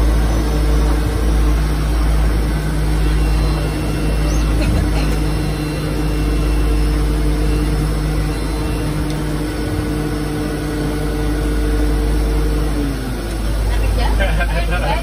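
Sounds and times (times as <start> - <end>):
turboprop engines rumbling: 0.0 - 15.0.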